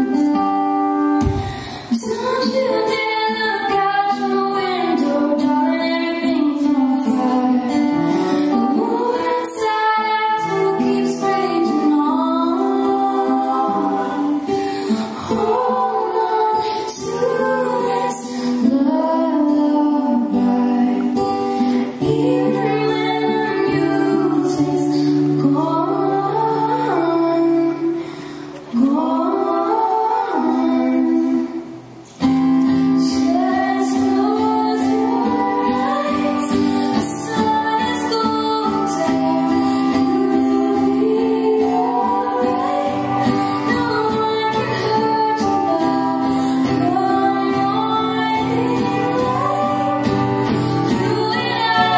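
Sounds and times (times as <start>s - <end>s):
woman singing: 0.0s - 32.0s, 32.7s - 51.9s
harmony voices: 0.0s - 51.9s
strummed acoustic guitar: 0.0s - 51.9s.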